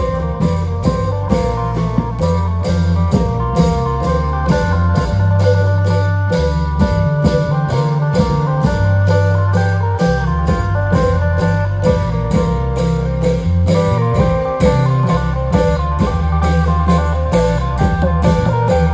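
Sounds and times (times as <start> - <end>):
bass line: 0.0 - 18.9
long drums beating: 0.0 - 18.9
plucked string melody: 0.0 - 18.9.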